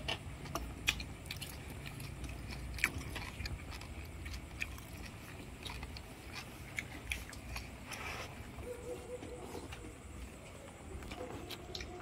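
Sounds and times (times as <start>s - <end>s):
person chewing noodle soup: 0.0s - 12.0s.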